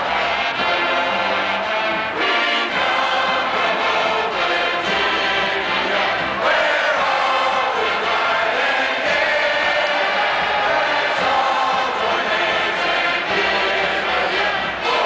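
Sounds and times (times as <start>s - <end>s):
stadium crowd singing: 0.0s - 15.0s.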